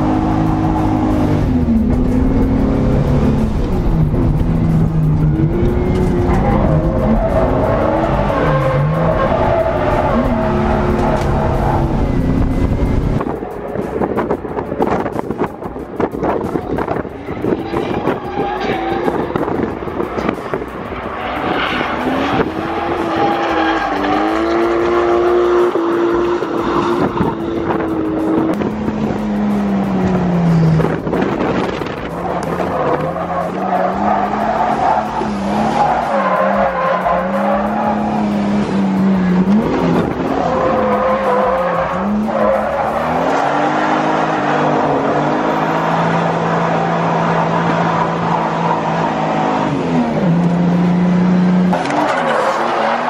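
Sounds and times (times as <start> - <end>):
car engine revving: 0.0 - 53.0
tires squealing: 0.0 - 53.0.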